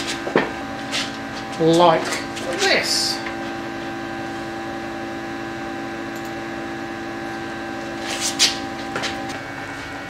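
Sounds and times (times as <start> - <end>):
machine electrical hum: 0.0 - 10.0.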